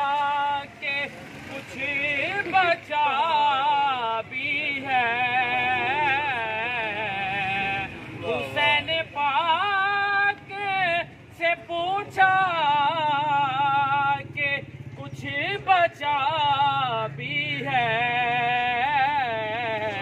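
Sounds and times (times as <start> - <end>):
man chanting unaccompanied: 0.0 - 20.0.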